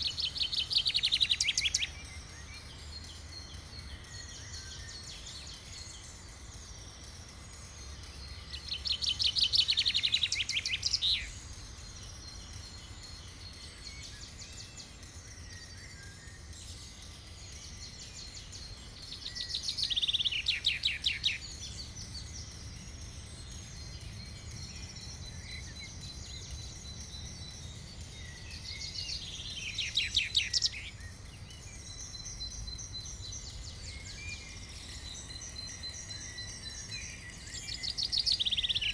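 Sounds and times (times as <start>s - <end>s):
bird singing rapid trill: 0.0s - 38.9s
faint high chirping: 0.0s - 38.9s.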